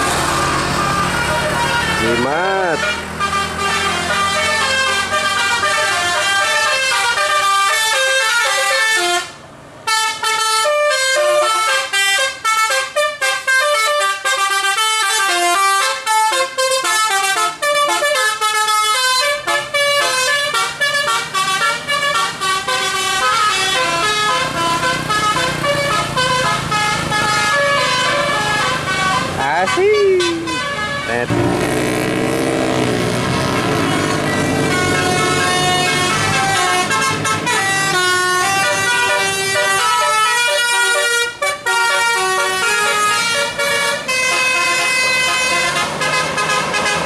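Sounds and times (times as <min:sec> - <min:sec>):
musical air horn tune: 0:00.2 - 0:09.3, 0:09.9 - 0:47.0.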